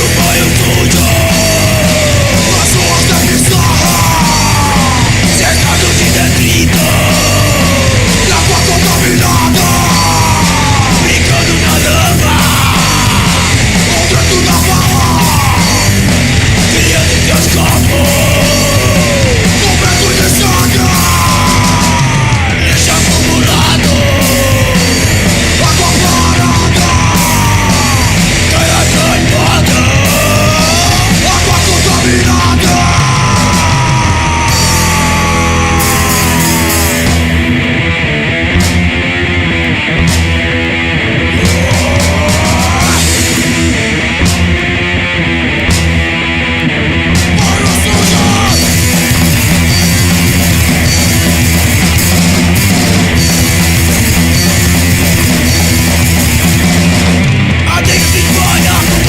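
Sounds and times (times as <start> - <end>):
bass guitar: 0.0 - 59.0
distorted electric guitar: 0.0 - 59.0
drum kit: 0.0 - 59.0
heavy punk metal band playing: 0.0 - 59.0.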